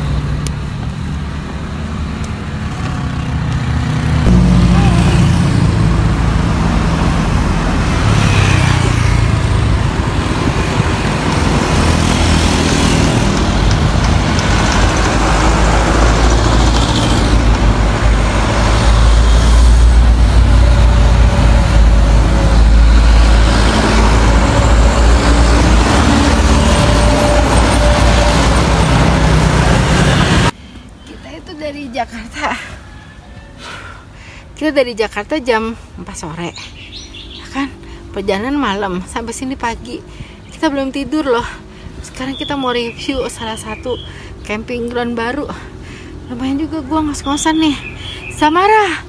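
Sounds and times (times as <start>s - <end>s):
cars and motor scooters passing: 0.0s - 49.0s.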